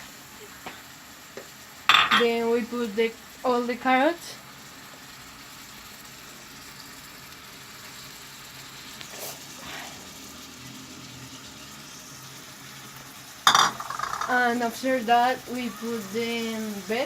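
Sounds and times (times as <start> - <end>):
food sizzling in a skillet: 0.0 - 17.0.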